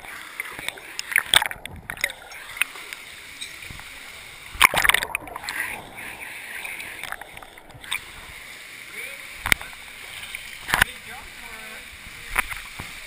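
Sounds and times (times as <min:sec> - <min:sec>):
waterfall water splashing: 0:00.0 - 0:13.0.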